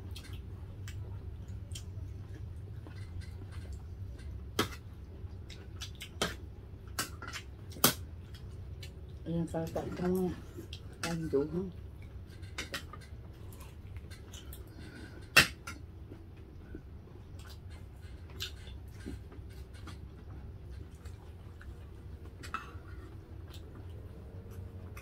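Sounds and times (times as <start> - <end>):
quiet chewing: 0.0 - 11.1, 11.7 - 25.0
low background hum: 0.0 - 25.0.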